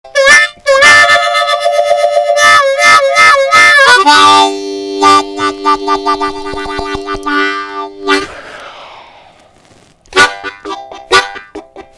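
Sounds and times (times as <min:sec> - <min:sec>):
harmonica chugging chords: 0:00.1 - 0:08.6, 0:10.1 - 0:11.9.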